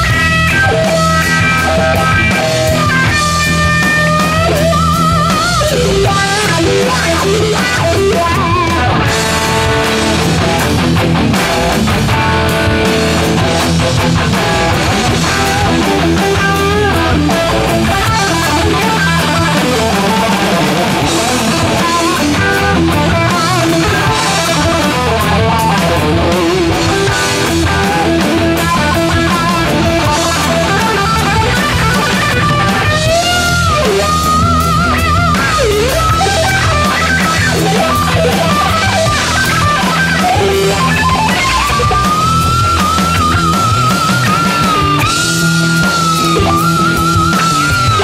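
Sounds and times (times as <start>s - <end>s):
driven electric guitar lead: 0.0s - 48.0s.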